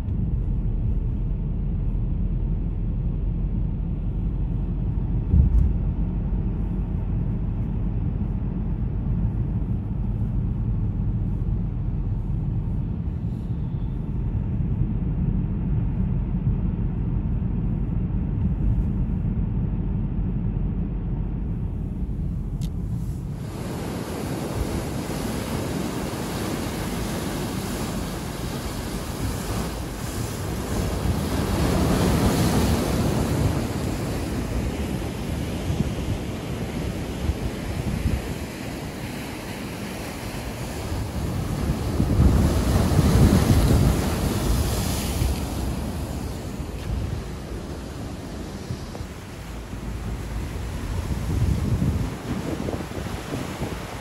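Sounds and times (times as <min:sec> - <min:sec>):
car road and engine rumble: 0:00.0 - 0:54.0
wind buffeting microphone: 0:00.0 - 0:54.0.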